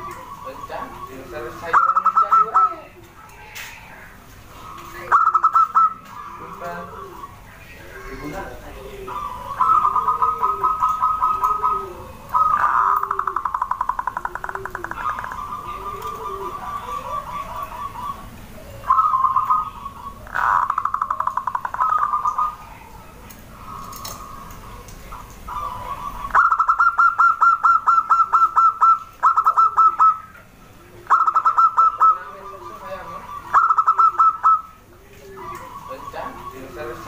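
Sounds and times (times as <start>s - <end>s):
doves trilling coos: 0.0s - 37.0s.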